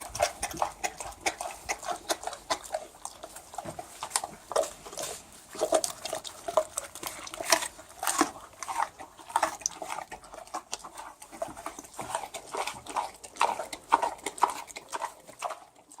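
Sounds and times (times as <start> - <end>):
pig chomping food: 0.0 - 16.0.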